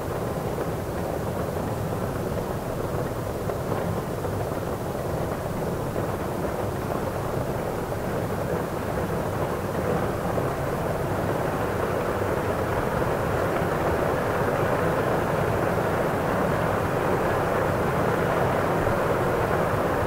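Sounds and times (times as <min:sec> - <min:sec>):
indoor ambient rumble and hiss: 0:00.0 - 0:20.0.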